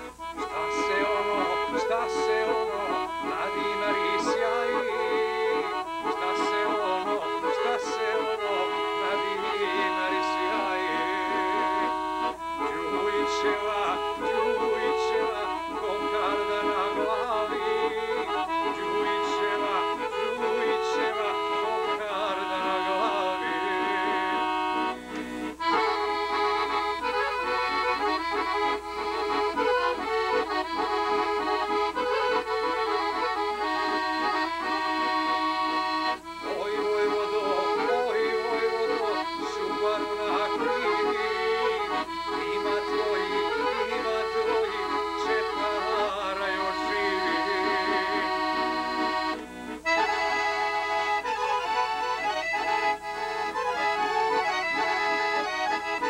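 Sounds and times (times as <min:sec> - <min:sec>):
button accordion playing a tune: 0:00.0 - 0:56.0.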